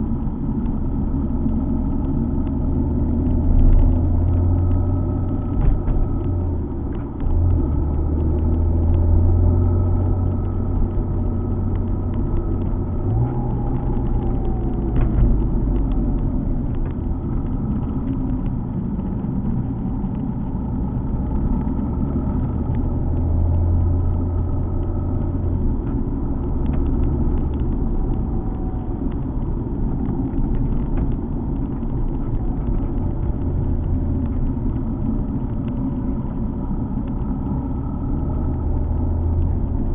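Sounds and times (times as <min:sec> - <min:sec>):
car engine droning: 0:00.0 - 0:39.9
tyre and road rumble: 0:00.0 - 0:39.9.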